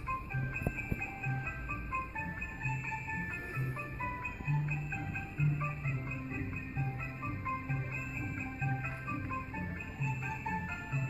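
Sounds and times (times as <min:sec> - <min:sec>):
christmas music: 0:00.0 - 0:11.0
christmas music with sleigh bells: 0:00.0 - 0:11.0.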